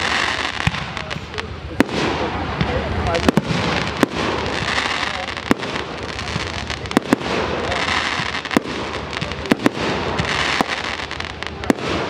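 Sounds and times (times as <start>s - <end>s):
fireworks bangs: 0.0s - 12.0s
steady background noise: 0.0s - 12.0s.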